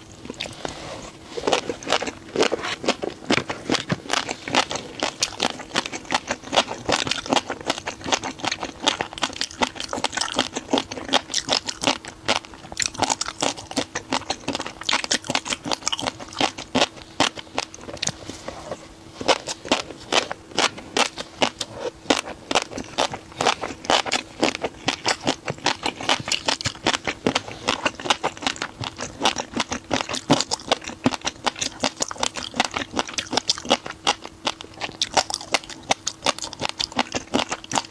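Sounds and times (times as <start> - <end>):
chewing crunchy food: 0.0 - 37.9
faint steady hum: 0.0 - 37.9.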